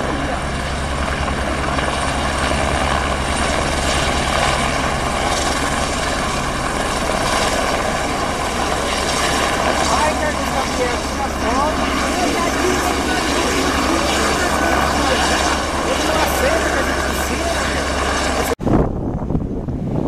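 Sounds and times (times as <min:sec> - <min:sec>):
helicopter rotor chop: 0:00.0 - 0:20.0
turbine whine: 0:00.0 - 0:20.0.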